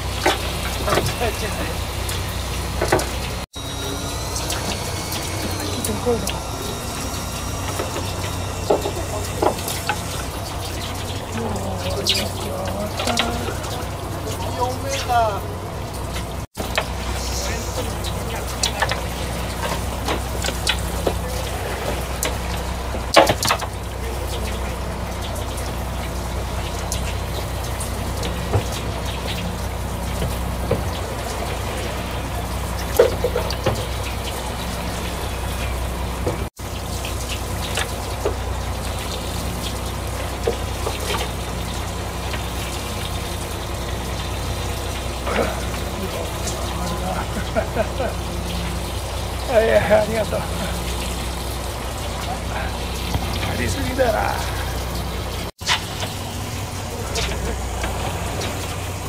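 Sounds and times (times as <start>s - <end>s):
boat engine idling: 0.0s - 59.0s
water splashing along hull: 0.0s - 59.0s.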